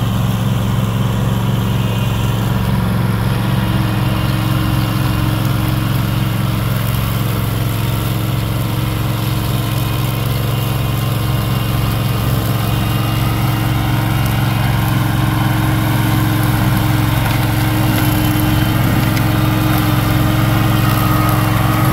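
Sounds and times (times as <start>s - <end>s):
mulcher engine running: 0.0s - 21.9s.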